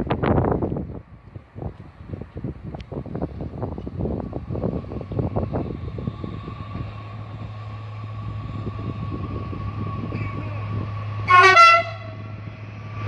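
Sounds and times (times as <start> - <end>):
train approaching hum: 0.0 - 13.0
wind buffeting microphone: 0.0 - 13.0.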